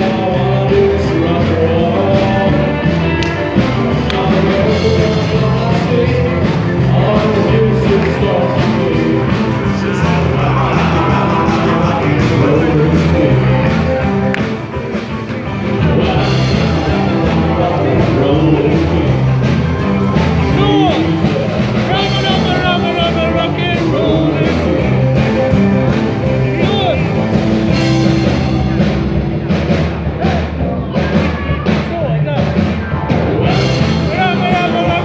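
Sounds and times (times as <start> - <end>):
live rock band with singer: 0.0 - 35.0.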